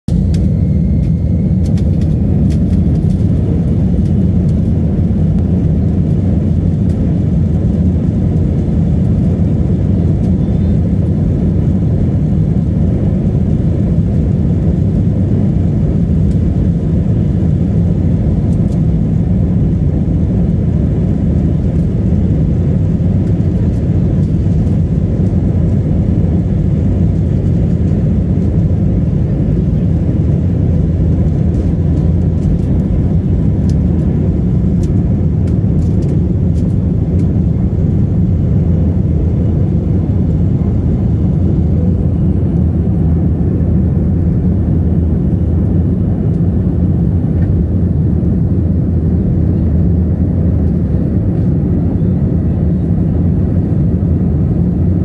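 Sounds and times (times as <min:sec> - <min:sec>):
jet engine cabin rumble: 0:00.1 - 0:55.0.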